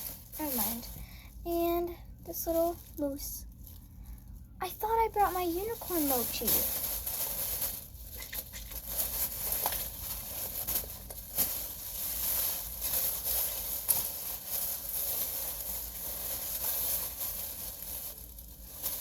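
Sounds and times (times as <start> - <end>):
hands rummaging through toys: 0.0 - 1.0, 2.3 - 19.0.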